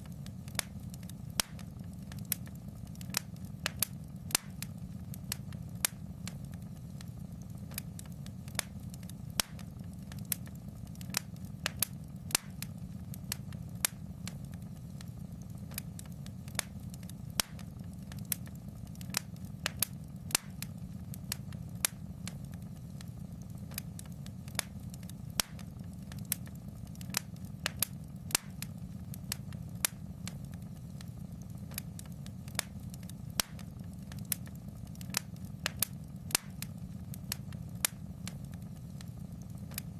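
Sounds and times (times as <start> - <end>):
fire crackling and popping: 0.0 - 39.9
low rumble of burning fire: 0.0 - 39.9.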